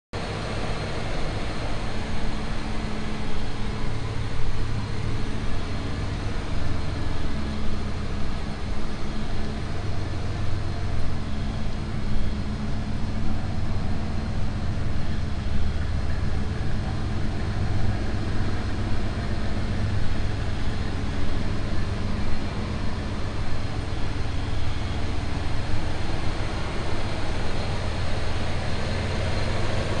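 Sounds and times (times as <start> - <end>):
truck engine idling: 0.2 - 30.0.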